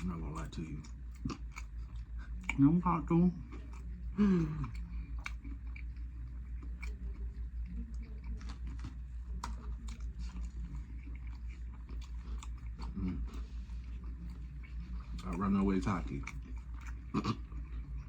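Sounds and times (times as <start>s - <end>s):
chewing and crunching: 0.0s - 18.0s.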